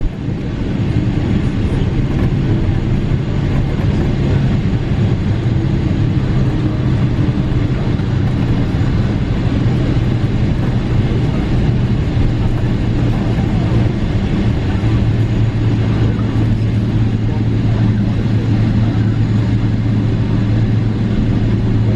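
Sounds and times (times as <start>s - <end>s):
aircraft cabin engine rumble: 0.0s - 21.9s.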